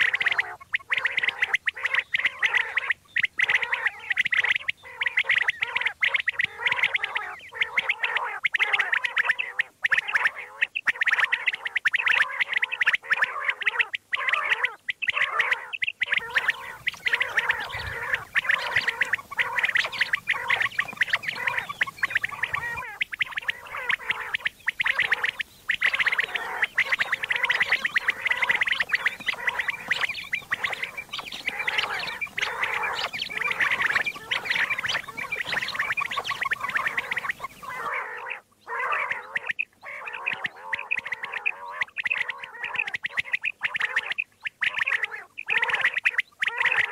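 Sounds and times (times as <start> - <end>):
quail calls: 0.0 - 46.9.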